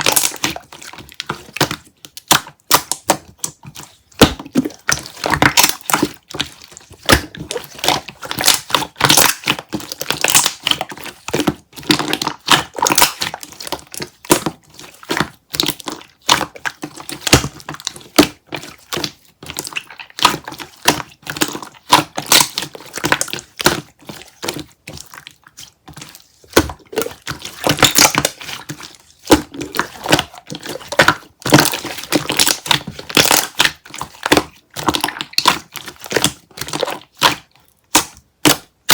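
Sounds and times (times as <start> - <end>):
fruit crunching while chewed: 0.0 - 38.9.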